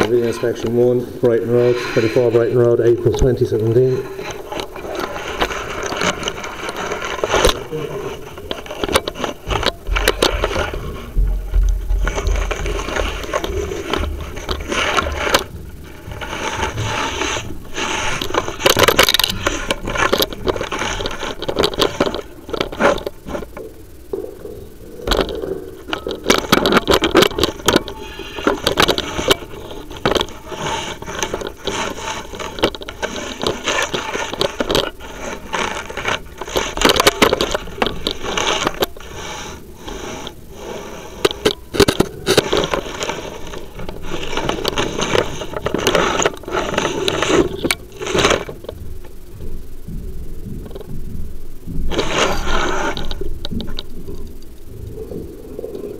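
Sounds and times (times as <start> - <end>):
camera scraping inside a flue: 0.0 - 55.9.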